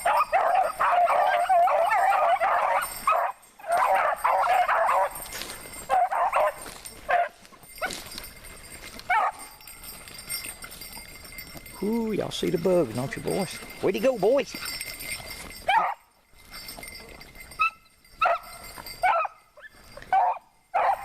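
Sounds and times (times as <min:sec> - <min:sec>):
hounds baying and yelping: 0:00.0 - 0:21.0.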